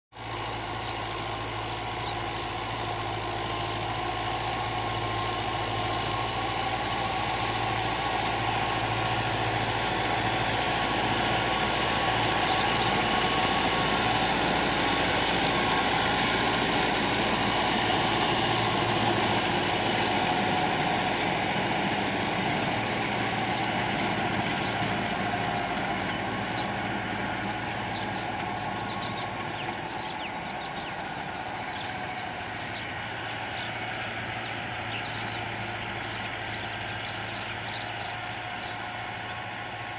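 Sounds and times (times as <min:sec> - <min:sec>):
tractor diesel engine running: 0:00.1 - 0:39.9.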